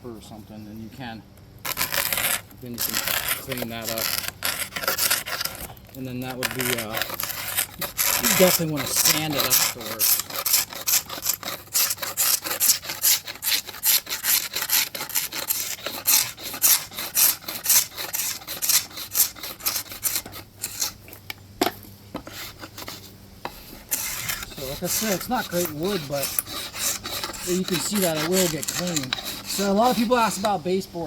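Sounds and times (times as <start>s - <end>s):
scraper scraping wood: 1.6s - 30.9s.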